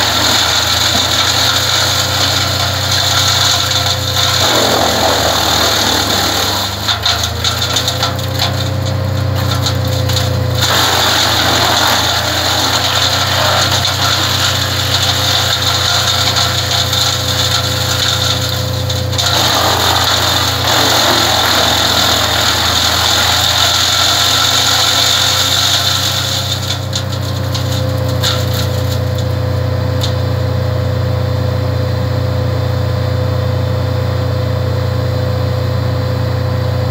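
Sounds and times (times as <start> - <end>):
wood chipper chipping branches: 0.0 - 32.6
engine running steadily: 0.0 - 36.9.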